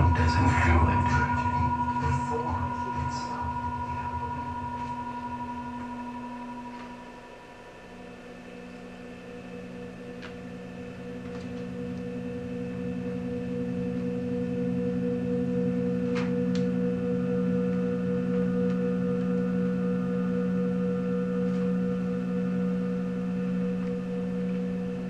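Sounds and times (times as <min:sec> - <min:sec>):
high sustained drone tone: 0:00.0 - 0:25.0
low chord of steady tones: 0:00.0 - 0:25.0.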